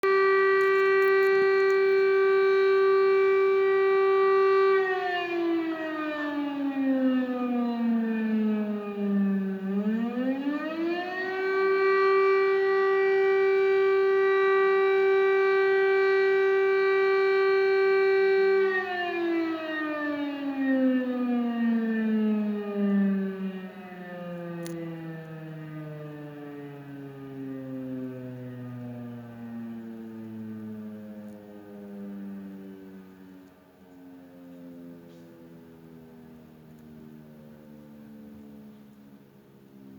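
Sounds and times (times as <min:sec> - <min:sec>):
civil defense siren: 0:00.0 - 0:39.9.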